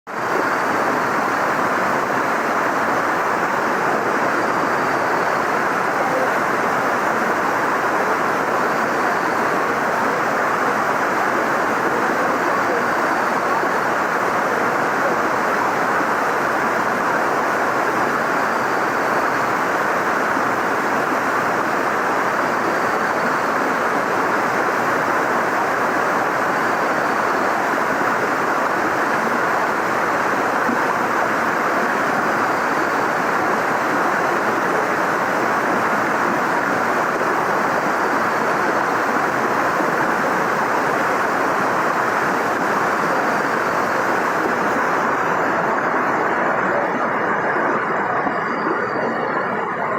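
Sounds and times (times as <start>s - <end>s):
waterfall rushing: 0.1s - 49.9s.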